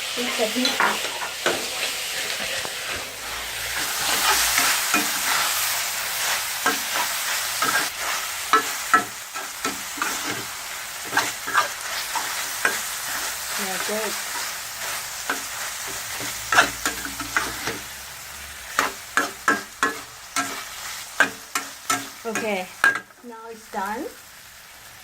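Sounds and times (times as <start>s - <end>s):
meat sizzling in a hot pan: 0.0s - 25.0s.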